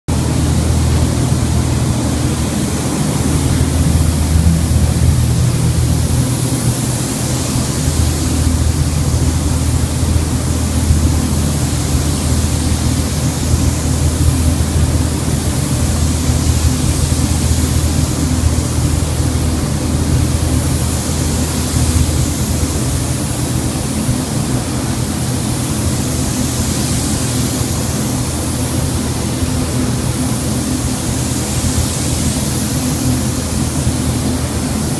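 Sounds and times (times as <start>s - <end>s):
spray gun air hiss: 0.1s - 34.9s
ventilation hum and rush: 0.1s - 34.9s.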